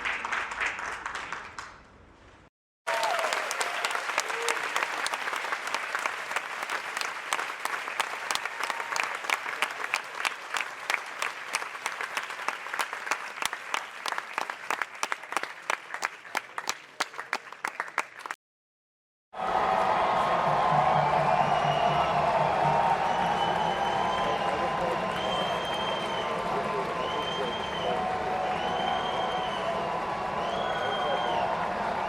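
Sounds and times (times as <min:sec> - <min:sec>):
audience applauding: 0:00.0 - 0:01.8, 0:02.9 - 0:18.4, 0:19.4 - 0:32.0.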